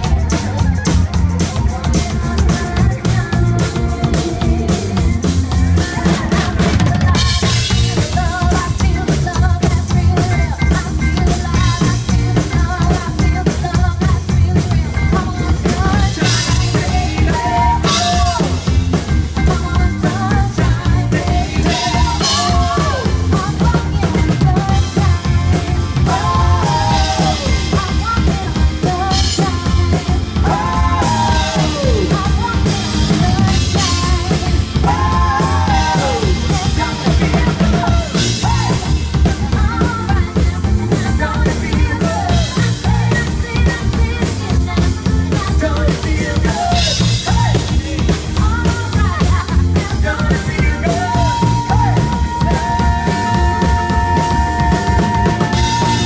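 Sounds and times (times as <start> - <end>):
live rock band playing: 0.0 - 56.0
pounding drum kit: 0.0 - 56.0
singers singing: 0.0 - 56.0.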